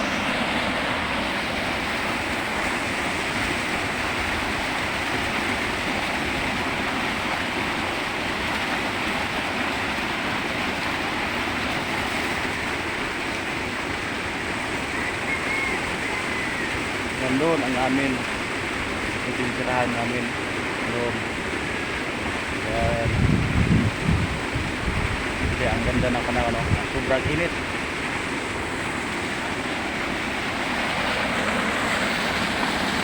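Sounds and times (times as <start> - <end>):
fast-flowing river rushing: 0.0 - 22.7, 24.4 - 33.0.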